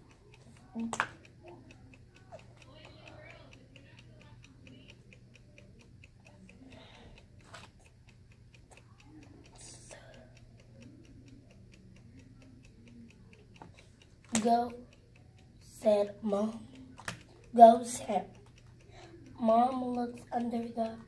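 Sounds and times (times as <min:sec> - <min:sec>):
faint fast regular ticking: 0:00.0 - 0:21.0.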